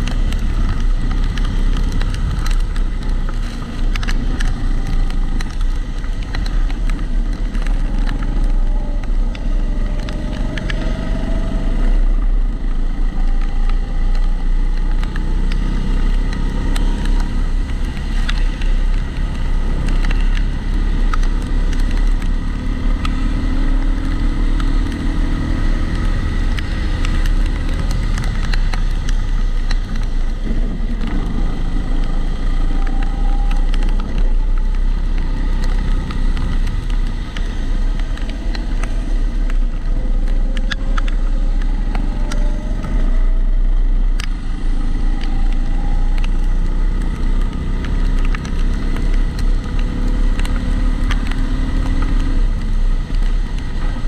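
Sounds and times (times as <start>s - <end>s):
small clicks and rattles: 0.0s - 54.0s.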